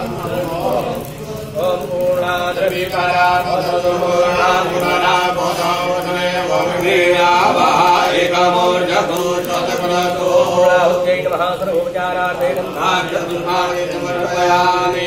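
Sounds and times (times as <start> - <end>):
voices chanting a mantra: 0.0 - 15.0.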